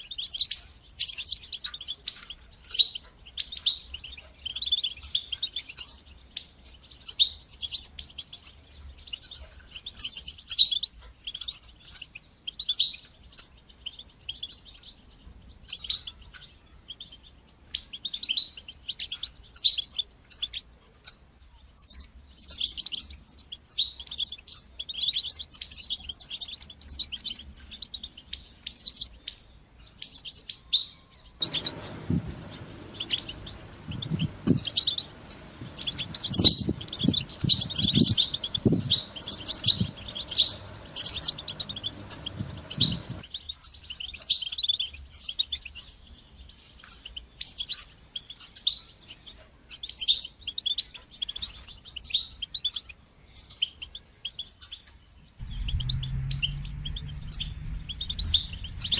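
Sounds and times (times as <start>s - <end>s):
goldfinch twittering song: 0.0s - 58.9s.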